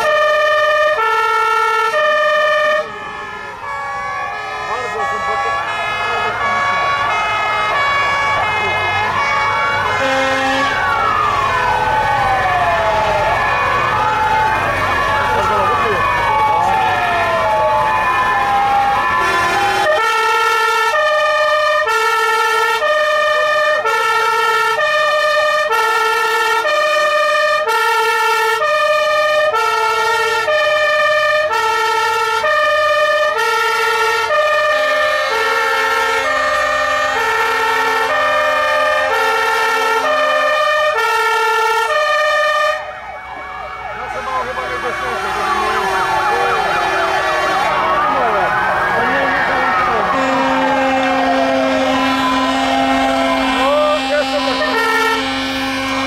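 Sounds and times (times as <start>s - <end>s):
faint sirens wailing: 0.0s - 56.0s
fire engine two-tone siren: 0.0s - 56.0s.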